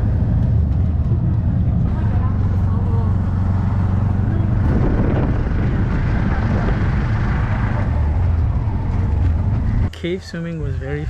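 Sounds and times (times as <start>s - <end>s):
vehicle engine drone: 0.0s - 11.0s.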